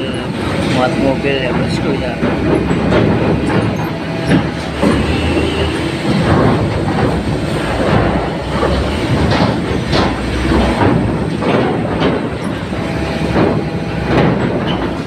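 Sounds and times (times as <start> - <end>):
metal clanks on loading ramp: 0.0 - 15.0
vehicle engine rumble: 0.0 - 15.0.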